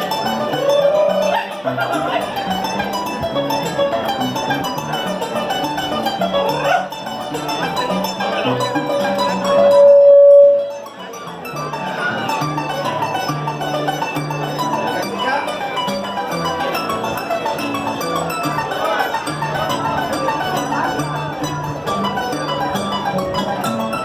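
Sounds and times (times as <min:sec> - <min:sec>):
mariachi music with harp: 0:00.0 - 0:24.0.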